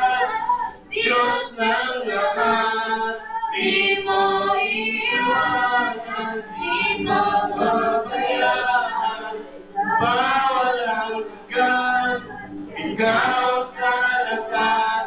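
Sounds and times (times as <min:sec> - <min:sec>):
group singing worship songs: 0:00.0 - 0:15.0.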